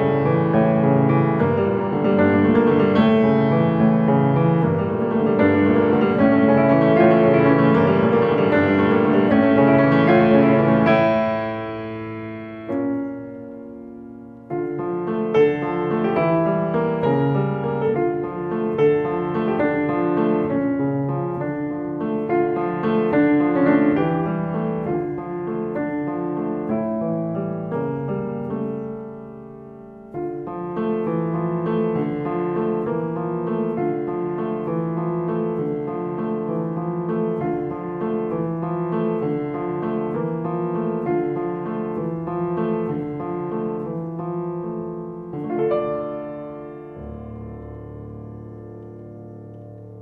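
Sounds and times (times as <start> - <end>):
piano music: 0.0 - 50.0.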